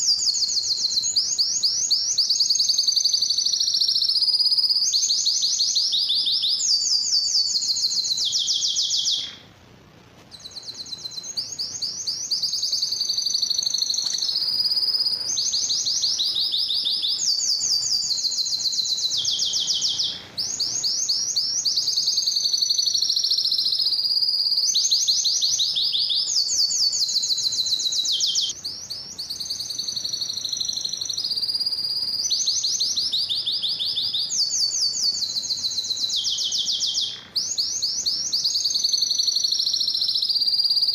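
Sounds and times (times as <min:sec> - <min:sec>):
canary singing trills: 0:00.0 - 0:09.6, 0:10.2 - 0:40.9.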